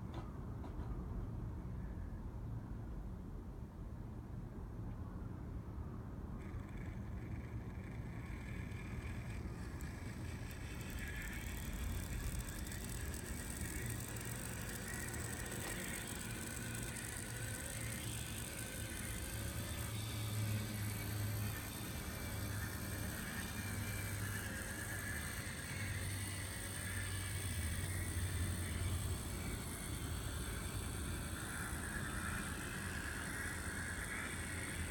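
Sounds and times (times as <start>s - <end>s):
model locomotive motor hum: 5.9s - 34.9s
wheels rolling on rails: 6.4s - 34.9s.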